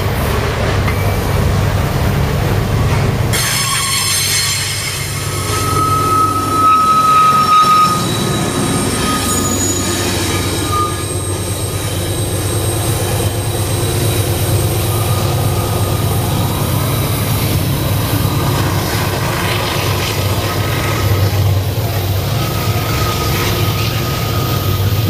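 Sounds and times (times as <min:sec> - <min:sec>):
steel wheels squealing on rail: 0:00.0 - 0:25.0.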